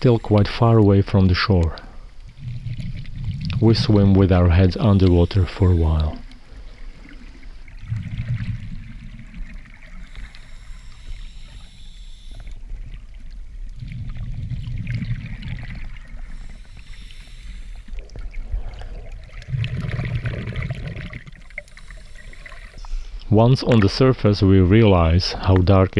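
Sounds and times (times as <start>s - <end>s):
watery hiss and swish: 0.0s - 24.1s
underwater exhale bubbling: 1.7s - 23.2s.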